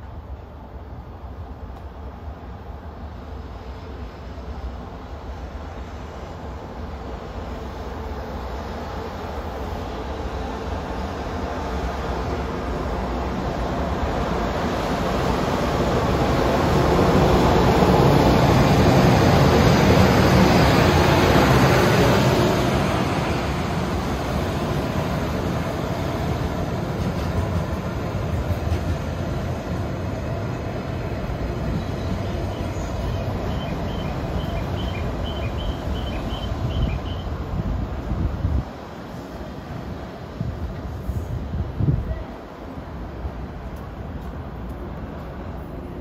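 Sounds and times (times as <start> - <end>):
train rumbling past on rails: 0.0 - 46.0.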